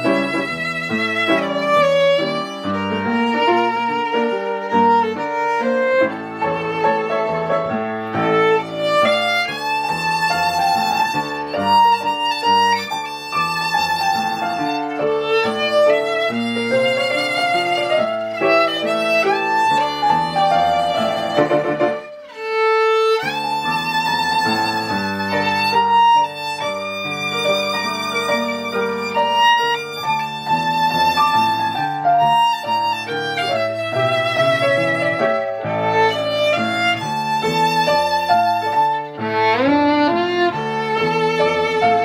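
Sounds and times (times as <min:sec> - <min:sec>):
piano accompaniment: 0:00.0 - 0:42.0
violin melody with vibrato: 0:00.0 - 0:42.0.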